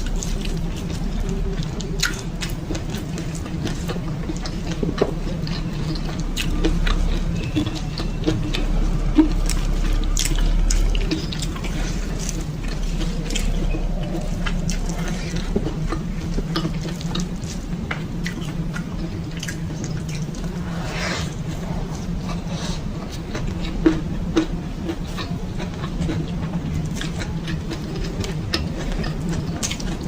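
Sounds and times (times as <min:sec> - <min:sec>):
steady low hum: 0:00.0 - 0:30.0
wet chewing and smacking: 0:00.0 - 0:30.0.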